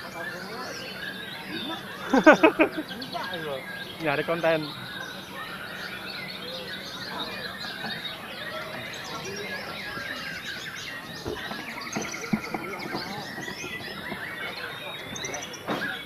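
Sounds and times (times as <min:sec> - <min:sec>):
many songbirds singing: 0:00.0 - 0:16.0.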